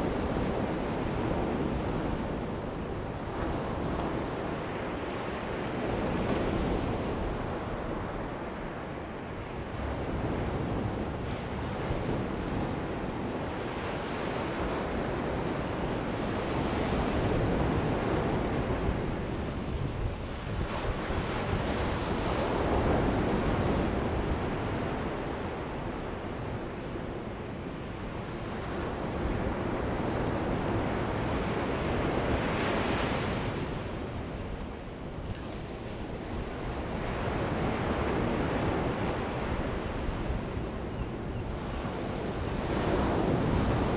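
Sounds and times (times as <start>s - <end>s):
sea surf breaking on beach: 0.0s - 43.9s.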